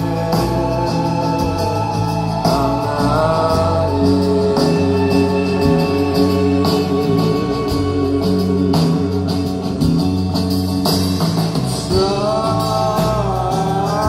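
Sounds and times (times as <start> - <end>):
person singing: 0.0 - 9.7, 11.7 - 14.0
guitar: 0.0 - 14.0
live rock band playing: 0.0 - 14.0.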